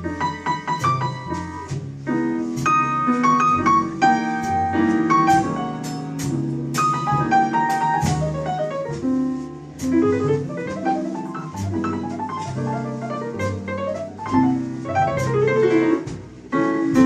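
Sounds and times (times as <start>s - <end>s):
bass: 0.0s - 17.0s
drums: 0.0s - 17.0s
piano quick runs: 0.0s - 17.0s.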